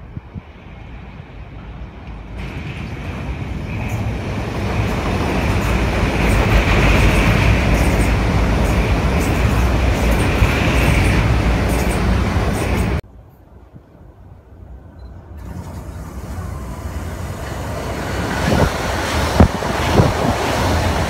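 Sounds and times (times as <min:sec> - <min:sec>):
electric train rumbling over bridge: 0:00.0 - 0:21.0.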